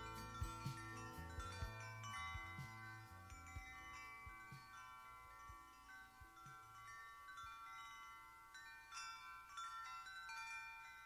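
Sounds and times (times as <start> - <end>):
faint wind chimes ringing: 0.0 - 11.0.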